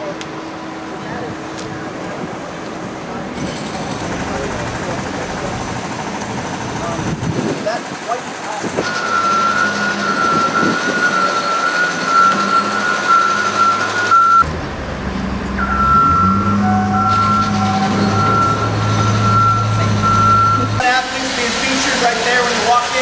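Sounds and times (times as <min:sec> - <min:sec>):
construction machinery engine hum: 0:00.0 - 0:23.0.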